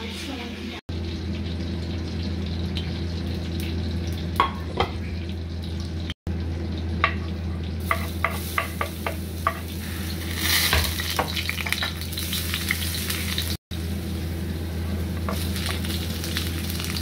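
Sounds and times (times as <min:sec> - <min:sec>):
garlic sizzling in oil: 0:00.2 - 0:17.0.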